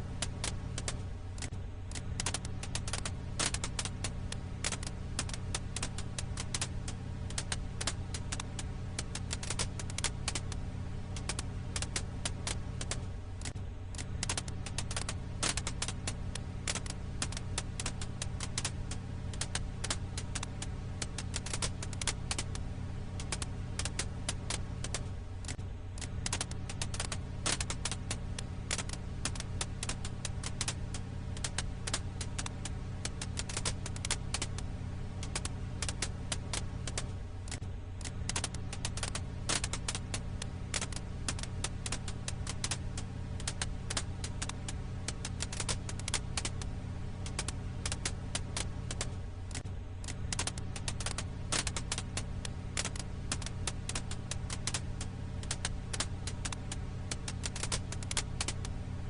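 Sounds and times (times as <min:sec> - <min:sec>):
firewood crackling and popping: 0:00.0 - 0:59.0
steady low rumble: 0:00.0 - 0:59.0.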